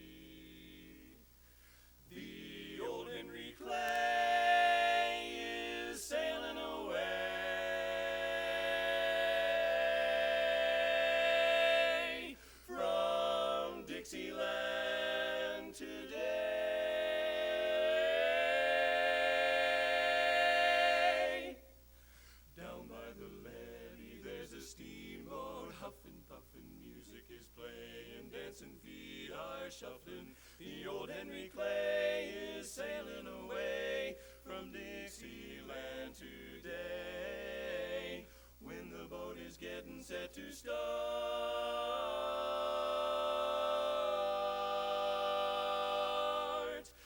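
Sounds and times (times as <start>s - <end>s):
male quartet singing a cappella: 0.0s - 1.3s, 2.0s - 21.8s, 22.6s - 47.0s.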